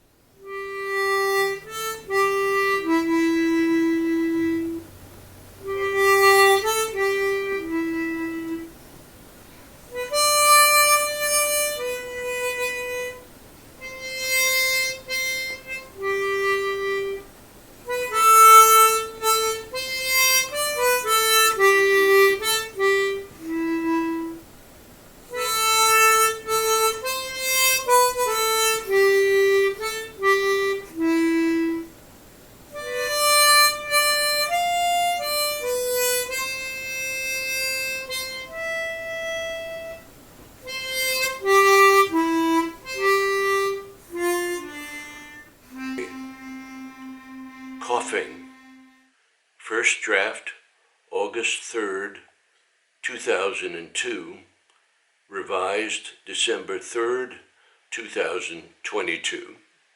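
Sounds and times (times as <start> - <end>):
solo harmonica melody: 0.0 - 49.1.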